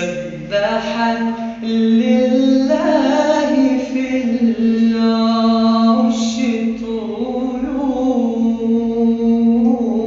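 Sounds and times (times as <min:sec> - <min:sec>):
person singing long held notes: 0:00.0 - 0:10.0.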